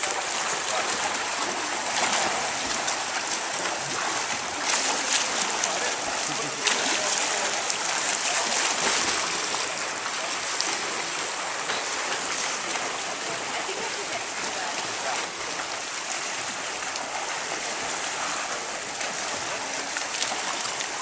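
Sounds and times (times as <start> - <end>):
swimmers splashing: 0.0 - 21.0.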